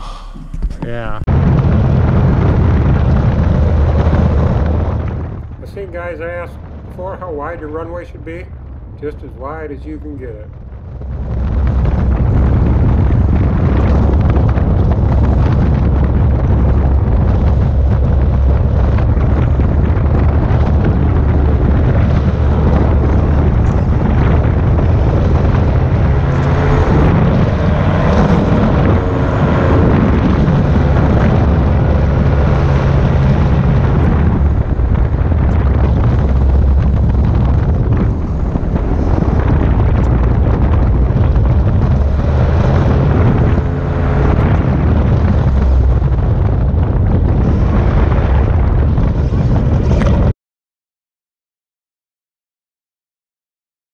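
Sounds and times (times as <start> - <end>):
engine and propeller running: 0.0 - 50.3
wind rushing over microphone: 0.0 - 50.3.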